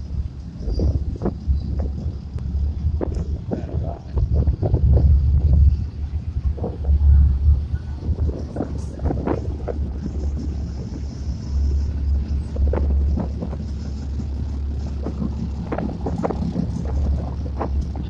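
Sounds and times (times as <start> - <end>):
vehicle engines idling: 0.0 - 18.0.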